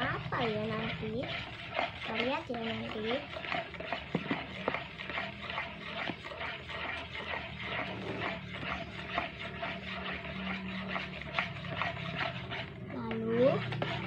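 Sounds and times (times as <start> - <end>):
scraping and clicking strokes: 0.0 - 14.0
spoon stirring in plastic bowl: 0.0 - 14.0.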